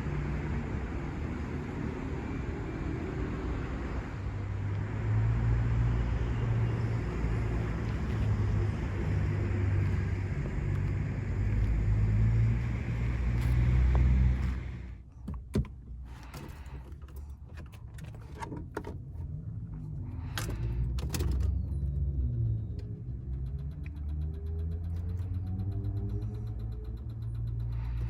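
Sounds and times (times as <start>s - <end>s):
car engine drone: 0.0s - 28.0s
road noise inside car: 0.0s - 28.0s.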